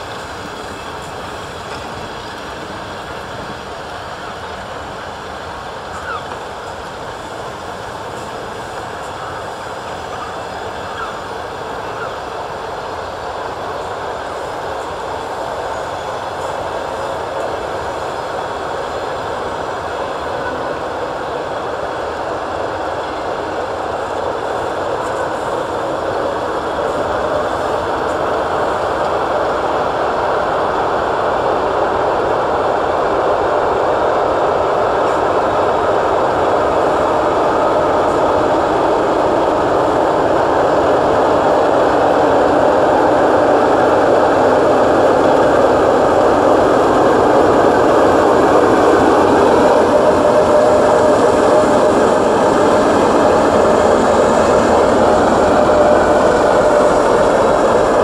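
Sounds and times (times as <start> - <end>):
train running on rails: 0.0 - 58.0.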